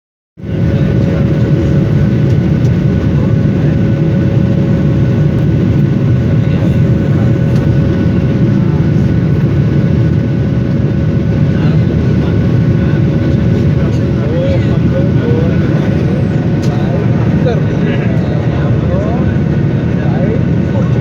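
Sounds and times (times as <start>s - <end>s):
airliner cabin engine rumble: 0.4s - 21.0s
constant hum: 0.4s - 21.0s.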